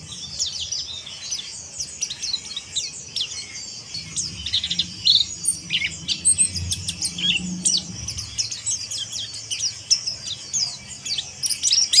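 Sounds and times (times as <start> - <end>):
bird twittering chatter: 0.0 - 12.0.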